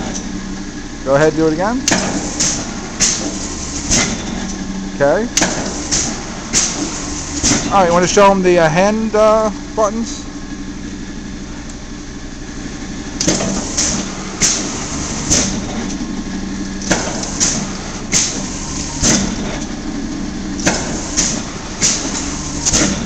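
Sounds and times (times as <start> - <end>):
press brake humming: 0.0 - 23.0.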